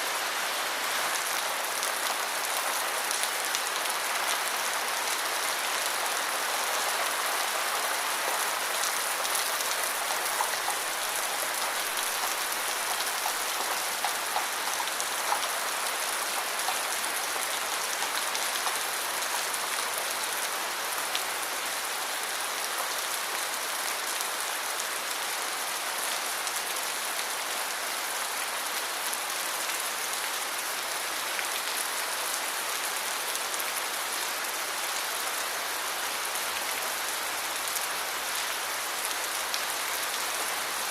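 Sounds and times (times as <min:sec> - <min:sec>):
rain pattering: 0:00.1 - 0:40.9.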